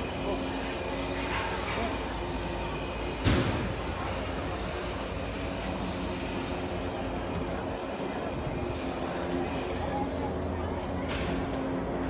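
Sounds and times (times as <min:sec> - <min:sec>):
cable car mechanical rumble: 0:00.0 - 0:12.0.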